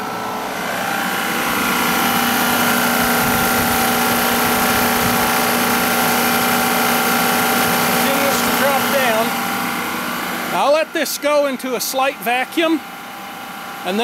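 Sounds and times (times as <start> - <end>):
recovery machine humming: 0.0 - 14.0.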